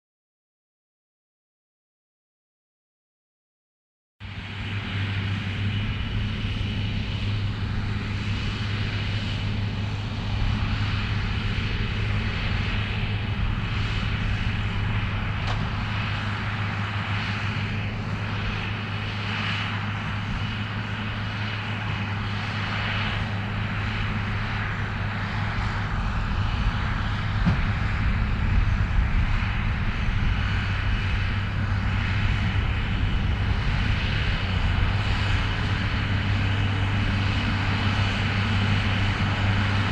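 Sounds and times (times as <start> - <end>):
round baler working: 4.2 - 39.9.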